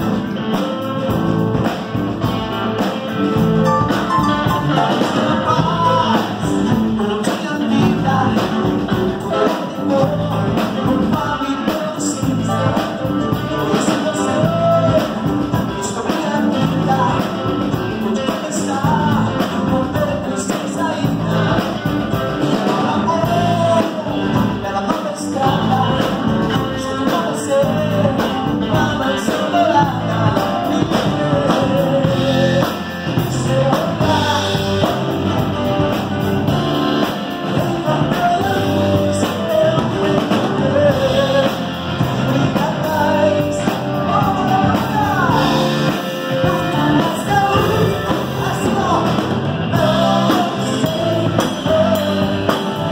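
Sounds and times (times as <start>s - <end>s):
man singing into microphone: 0.0s - 2.3s, 2.9s - 52.9s
rock band playing: 0.0s - 52.9s.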